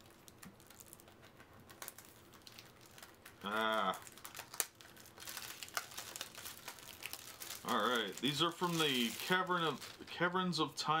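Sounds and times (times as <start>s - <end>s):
blister packaging crinkling: 0.0s - 10.4s.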